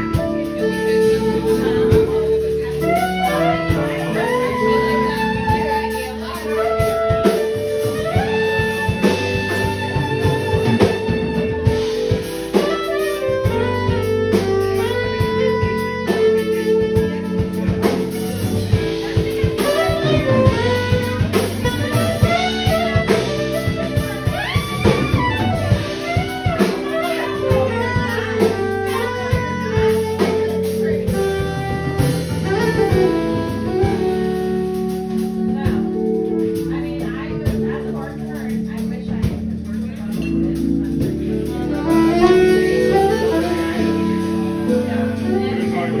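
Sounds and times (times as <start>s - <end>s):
drums: 0.0s - 46.0s
electric guitar: 0.0s - 46.0s
soprano saxophone melody: 0.0s - 46.0s.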